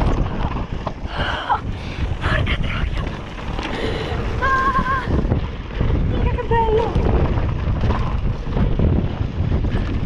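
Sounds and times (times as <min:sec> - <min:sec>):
bike tyres on dirt trail: 0:00.0 - 0:10.0
wind buffeting microphone: 0:00.0 - 0:10.0.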